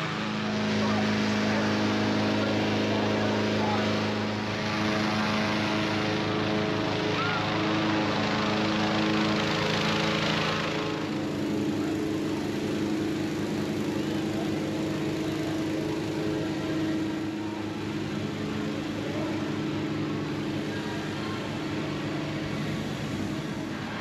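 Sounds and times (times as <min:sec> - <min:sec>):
inflator fan engine droning: 0:00.0 - 0:24.0.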